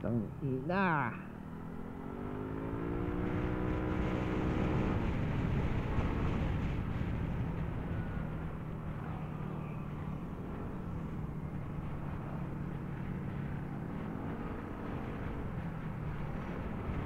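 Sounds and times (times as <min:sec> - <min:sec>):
wind rumble on microphone: 0:01.2 - 0:17.0.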